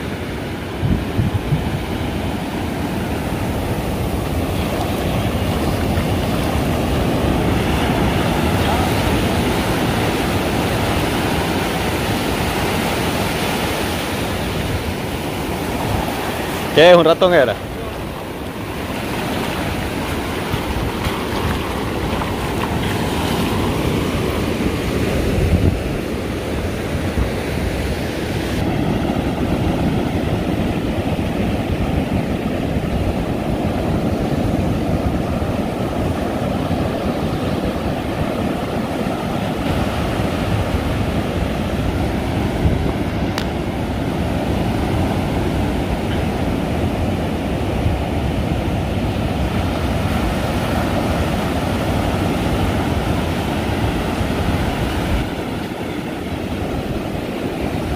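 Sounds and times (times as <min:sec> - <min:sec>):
ocean surf breaking: 0:00.0 - 0:57.9
wind rumbling on microphone: 0:00.0 - 0:57.9.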